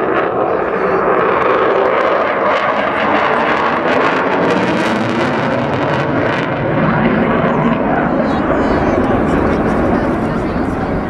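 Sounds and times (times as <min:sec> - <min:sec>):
jet engines roaring overhead: 0:00.0 - 0:11.0.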